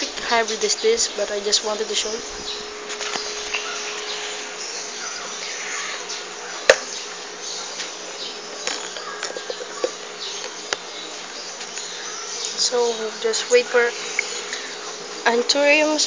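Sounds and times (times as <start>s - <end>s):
insects buzzing and chirping: 0.0s - 16.0s.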